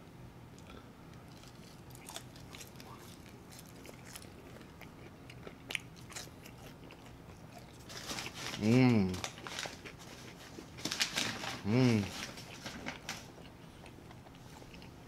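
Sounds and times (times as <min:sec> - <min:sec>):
person chewing crunchy food: 0:00.6 - 0:11.0, 0:11.6 - 0:15.0.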